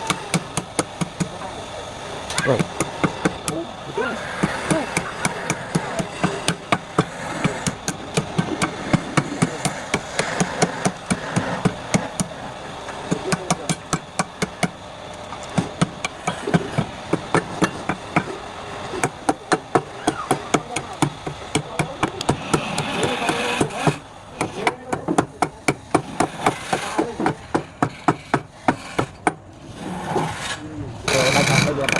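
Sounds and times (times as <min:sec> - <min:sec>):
rapid hammering knocks: 0:00.0 - 0:01.5, 0:02.3 - 0:29.5.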